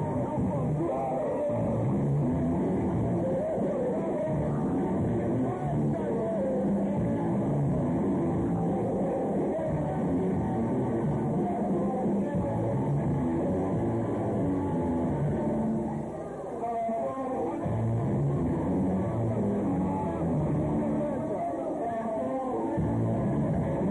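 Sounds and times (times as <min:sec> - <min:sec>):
muffled rock music with singing: 0:00.0 - 0:23.9.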